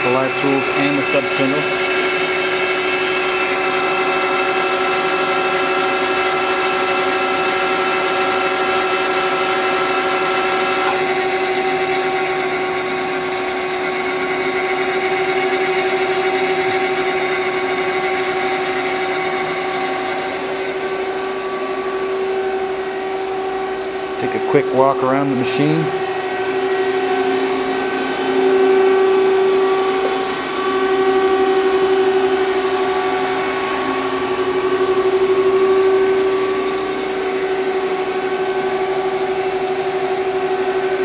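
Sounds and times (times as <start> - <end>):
lathe machine whine: 0.0 - 41.0
low machine hum: 0.0 - 41.0.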